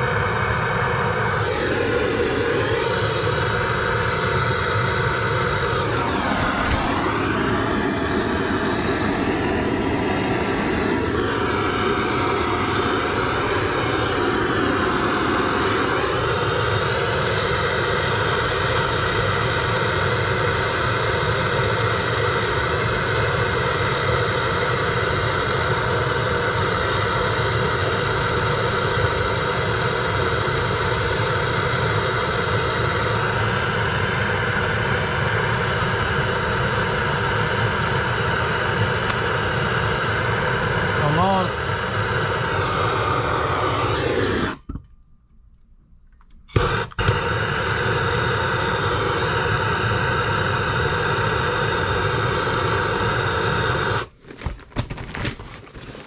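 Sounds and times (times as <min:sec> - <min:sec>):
gas torch flame hissing: 0:00.0 - 0:44.7, 0:46.5 - 0:54.2.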